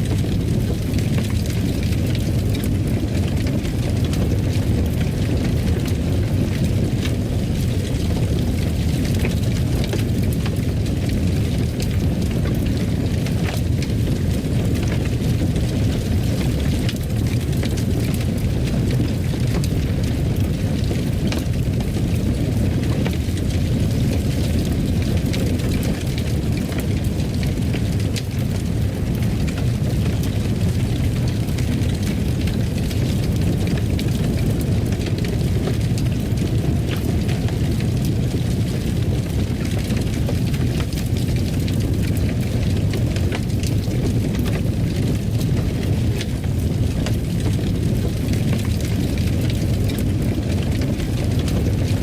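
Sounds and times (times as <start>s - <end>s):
fire crackling and popping: 0.0s - 52.0s
fire rumbling: 0.0s - 52.0s.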